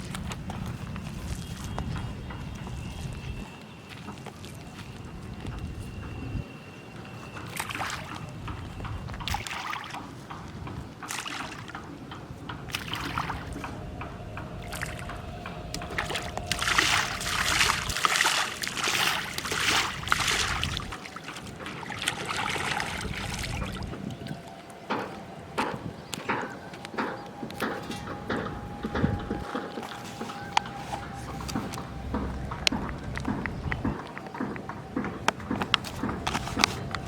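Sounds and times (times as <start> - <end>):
water sloshing and splashing: 0.0 - 37.0.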